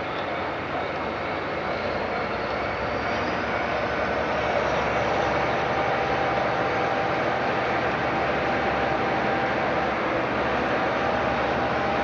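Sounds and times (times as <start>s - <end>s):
diesel train engine running: 0.0s - 12.0s.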